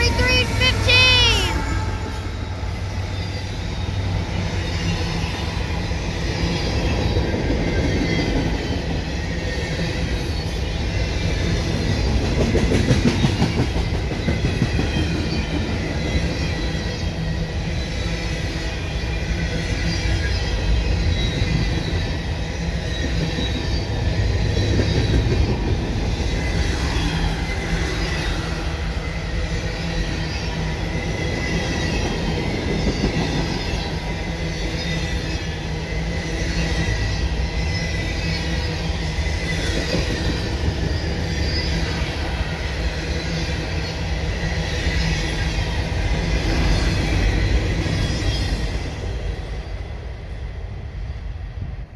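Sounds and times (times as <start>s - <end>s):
train wheels rumbling and clattering: 0.0s - 51.9s.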